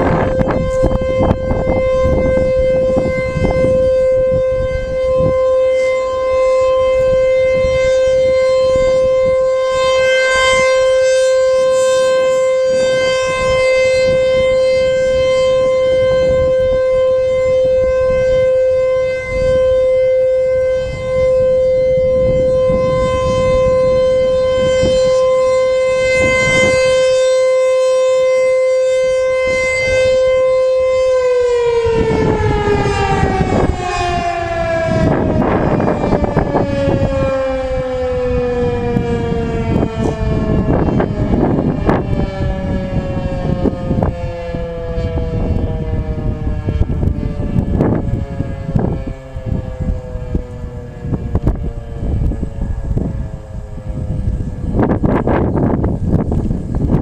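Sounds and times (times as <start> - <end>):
tornado siren steady tone: 0.0 - 57.0.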